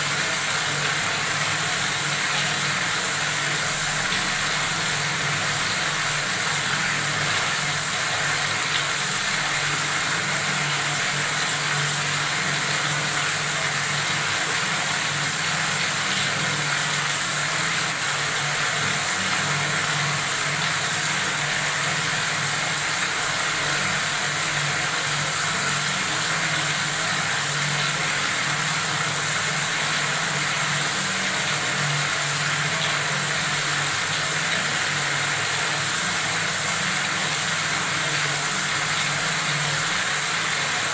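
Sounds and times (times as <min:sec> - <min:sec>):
tap water running from faucet: 0:00.0 - 0:40.9.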